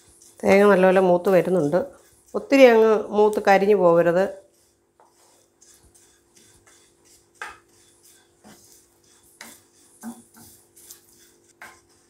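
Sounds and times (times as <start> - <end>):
spatula scraping frying pan: 0.0 - 12.0.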